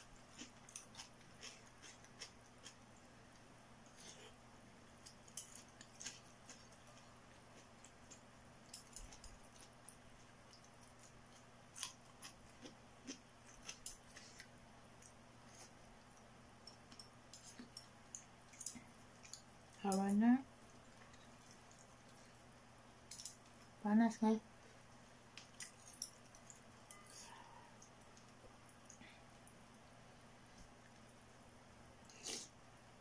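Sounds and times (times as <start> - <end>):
person chewing noodle soup: 0.0 - 19.8, 20.6 - 22.5, 25.3 - 29.6, 32.0 - 32.6
faint steady low hum: 0.0 - 33.0.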